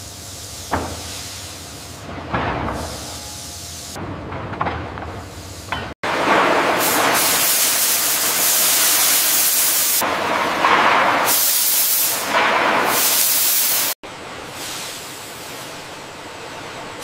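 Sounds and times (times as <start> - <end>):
steam hissing: 0.0 - 2.1, 2.7 - 4.0, 5.3 - 16.0.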